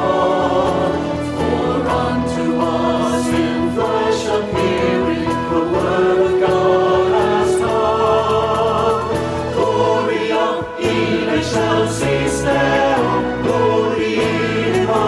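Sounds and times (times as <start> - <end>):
choir singing long held notes: 0.0 - 15.0.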